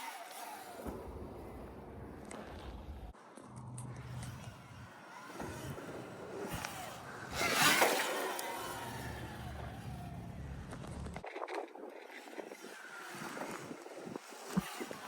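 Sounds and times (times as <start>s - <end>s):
electric dirt bike motor whine: 0.0s - 15.0s
tyres and wind rushing: 0.0s - 15.0s.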